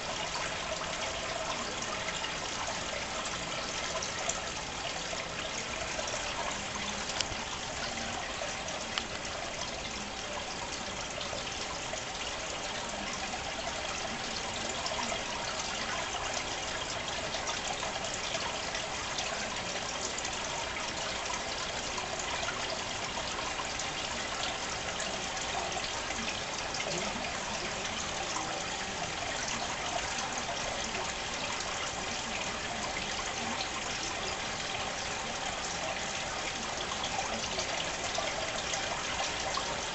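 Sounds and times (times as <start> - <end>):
water trickling in fish tank: 0.0 - 39.9.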